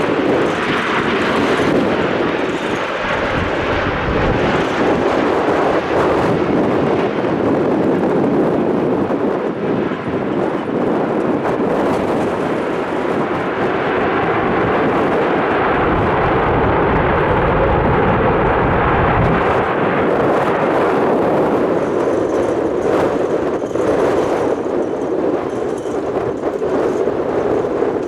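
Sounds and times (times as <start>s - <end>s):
jet engines rumbling: 0.0s - 28.0s
wind on microphone: 0.0s - 28.0s.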